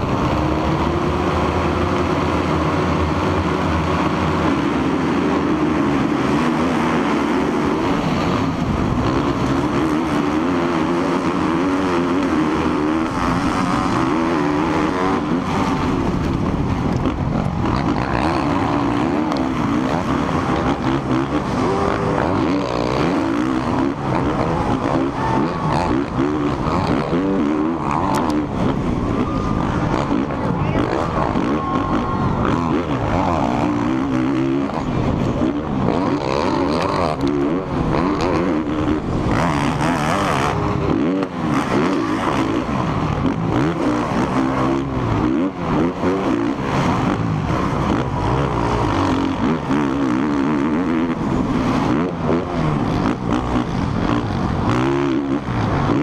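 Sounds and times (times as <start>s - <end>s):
motocross bike engine revving: 0.0s - 56.0s
other race bikes: 0.0s - 56.0s.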